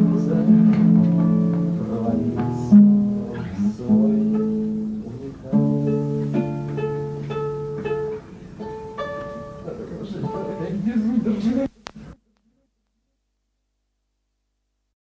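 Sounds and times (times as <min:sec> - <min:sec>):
acoustic guitar chords: 0:00.0 - 0:12.1.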